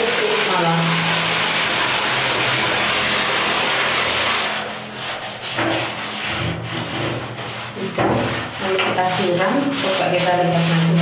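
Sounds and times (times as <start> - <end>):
scrubbing a door: 0.0 - 11.0.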